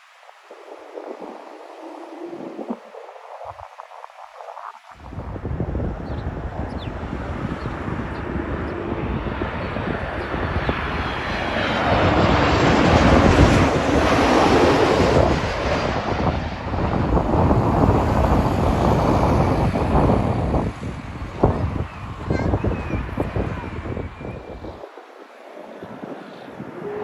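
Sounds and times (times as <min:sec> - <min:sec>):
jet engines roaring: 0:05.4 - 0:27.0.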